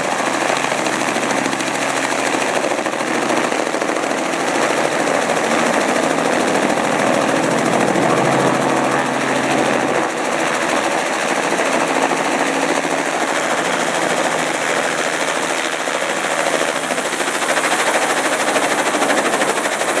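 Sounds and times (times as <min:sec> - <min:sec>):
helicopter engine whine: 0:00.0 - 0:20.0
helicopter rotor chopping: 0:00.0 - 0:20.0.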